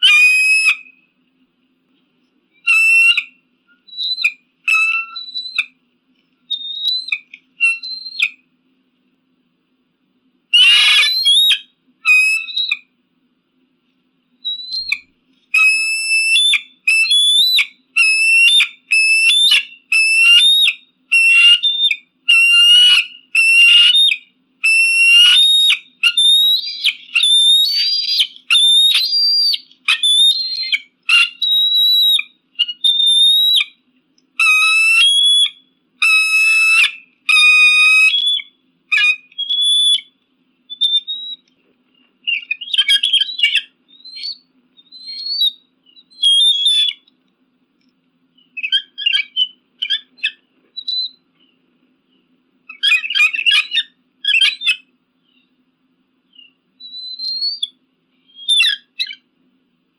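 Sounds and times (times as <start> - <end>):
eagle calling: 0.0 - 1.0, 2.6 - 5.8, 6.5 - 8.4, 10.5 - 12.9, 14.5 - 33.8, 34.4 - 41.6, 42.2 - 47.1, 48.4 - 51.2, 52.7 - 55.5, 56.3 - 59.3.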